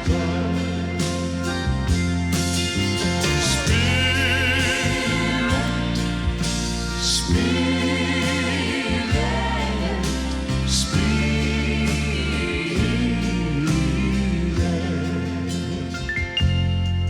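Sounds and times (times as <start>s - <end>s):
gospel choir singing: 0.0s - 16.1s
band with bass line: 0.0s - 17.0s.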